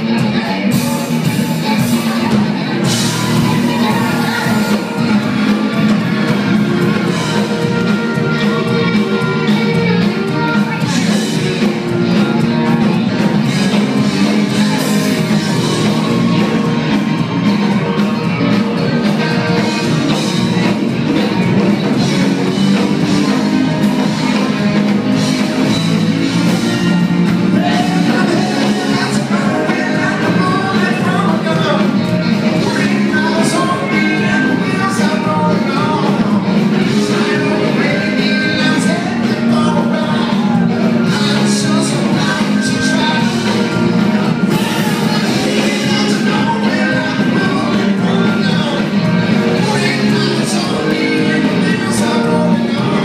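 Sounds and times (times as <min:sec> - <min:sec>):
drums: 0:00.0 - 0:53.0
electric guitars: 0:00.0 - 0:53.0
person singing: 0:00.0 - 0:53.0.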